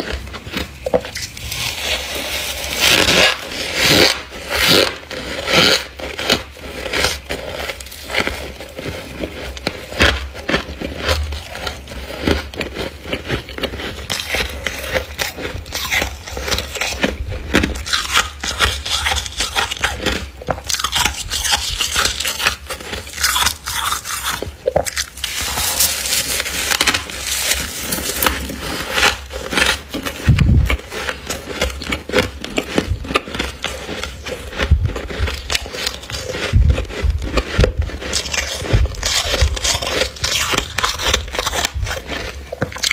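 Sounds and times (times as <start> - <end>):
freezer frost scraped and crunched: 0.0 - 42.9.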